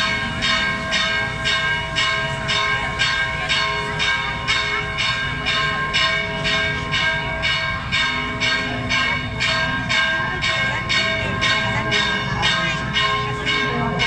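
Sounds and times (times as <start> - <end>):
church bell ringing: 0.0 - 14.0.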